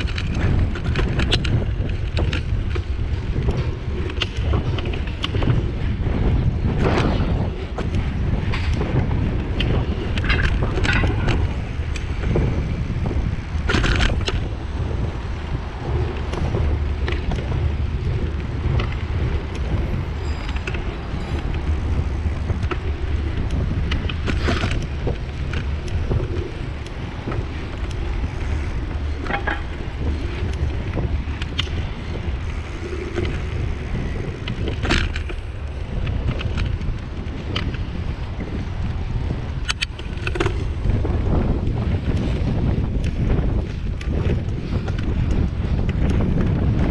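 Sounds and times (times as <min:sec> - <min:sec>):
tyres rumbling on concrete: 0:00.0 - 0:46.9
wind buffeting microphone: 0:00.0 - 0:46.9.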